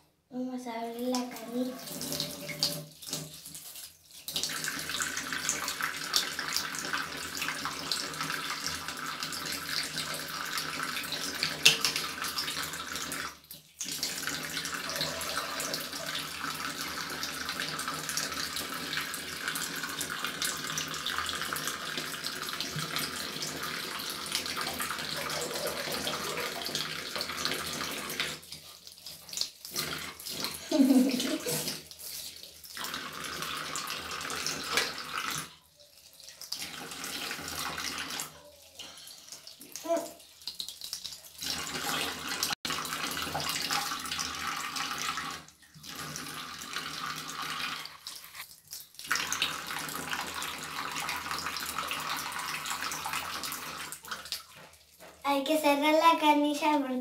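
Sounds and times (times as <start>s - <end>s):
tap water running into basin: 0.4s - 56.9s.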